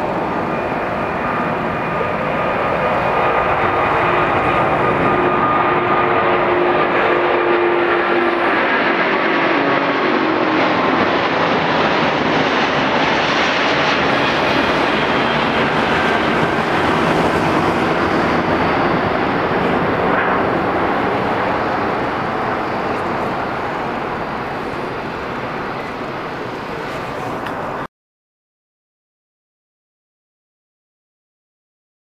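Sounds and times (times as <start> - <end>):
jet airliner engines roaring: 0.0 - 27.9.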